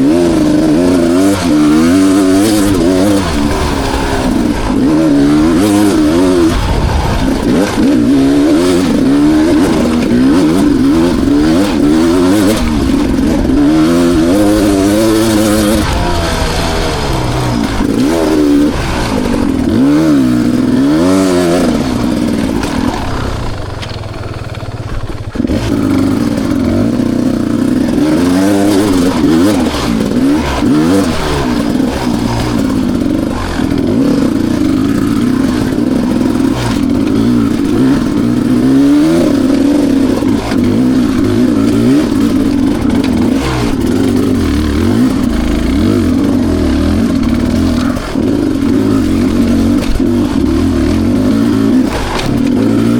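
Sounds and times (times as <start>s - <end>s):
two-stroke motorcycle engine revving: 0.0s - 52.9s.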